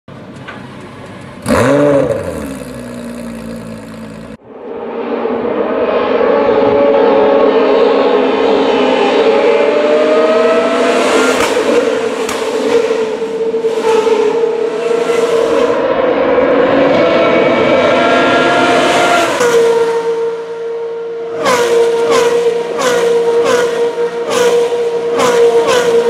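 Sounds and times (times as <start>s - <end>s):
racing car engines at high revs: 0.4s - 20.6s, 21.2s - 26.0s.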